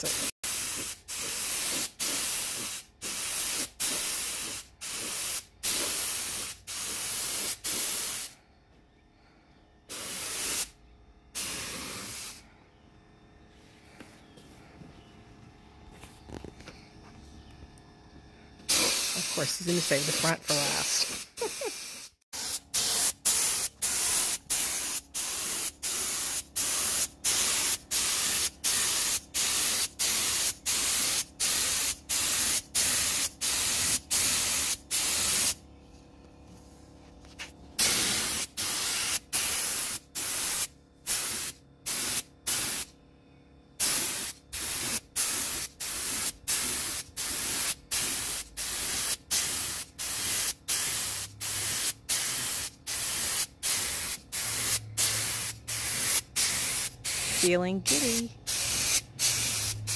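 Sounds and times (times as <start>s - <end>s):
paint spray gun hissing: 0.0s - 8.4s, 9.9s - 10.8s, 11.4s - 12.4s, 18.7s - 35.6s, 37.8s - 42.9s, 43.8s - 59.9s.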